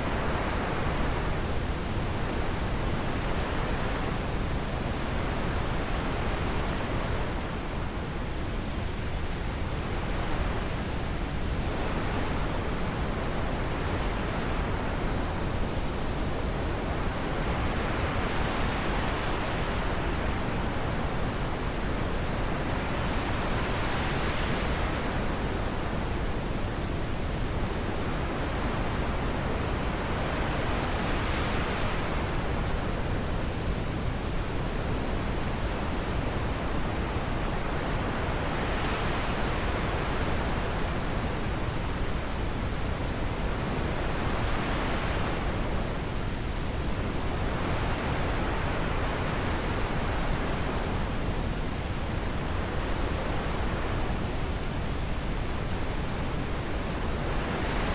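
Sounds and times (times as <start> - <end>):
wind blowing through trees: 0.0 - 57.9.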